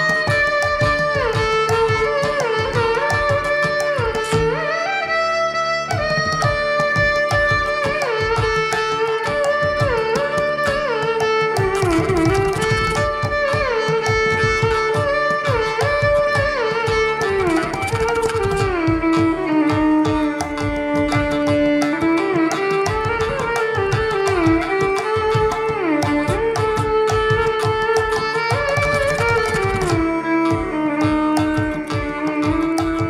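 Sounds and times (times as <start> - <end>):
drum strokes: 0.0 - 4.6, 5.9 - 33.0
violin melody with sliding notes: 0.0 - 33.0.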